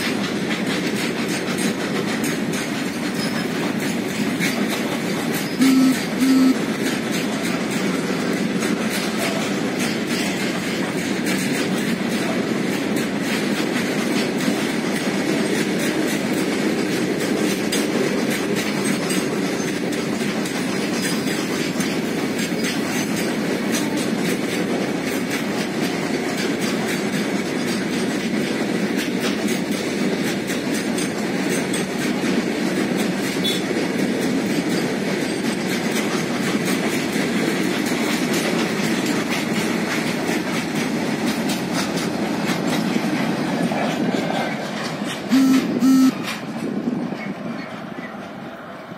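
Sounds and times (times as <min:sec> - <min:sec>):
wheels clicking over rail joints: 0:00.0 - 0:05.6, 0:06.6 - 0:48.9
train wheels rumbling on rail: 0:00.0 - 0:48.9.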